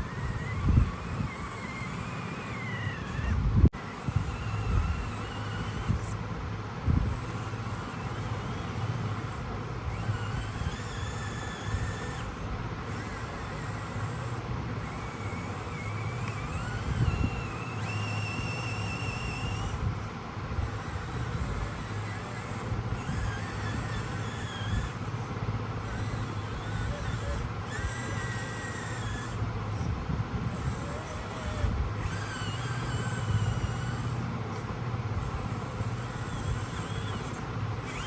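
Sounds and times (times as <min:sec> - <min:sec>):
small electric motor whining: 0:00.0 - 0:38.0
steady low hum: 0:00.0 - 0:38.0.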